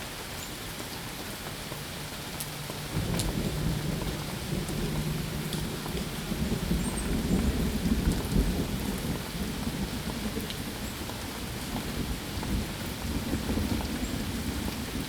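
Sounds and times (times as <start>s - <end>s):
steady rain falling: 0.0s - 15.0s
low rumble of thunder: 2.8s - 15.0s.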